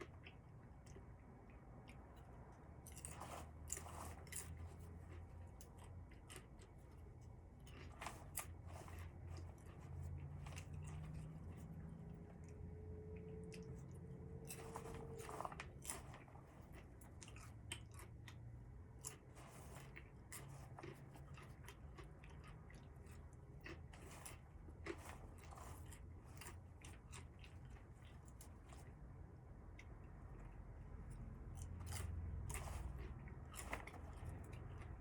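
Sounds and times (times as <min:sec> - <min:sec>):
faint small clicks and crunches: 0:00.0 - 0:35.0
low steady hum: 0:00.0 - 0:35.0.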